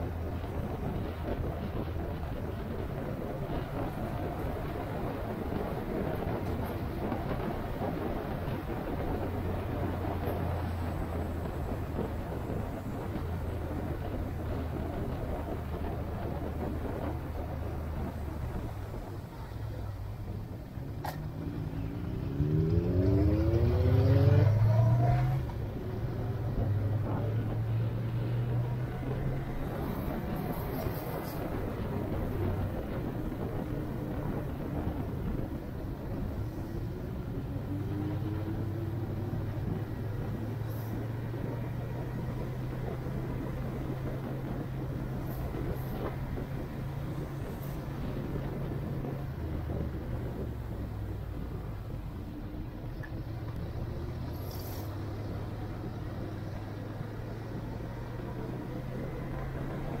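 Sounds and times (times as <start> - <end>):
vehicle engine running: 0.0 - 60.0.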